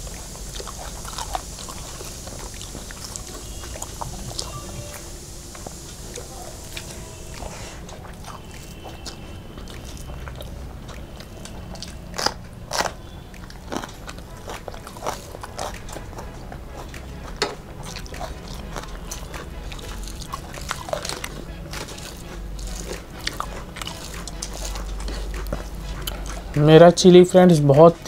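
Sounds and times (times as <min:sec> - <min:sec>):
crunchy bites of chilli: 0:00.0 - 0:26.7
chewing food: 0:00.0 - 0:28.0.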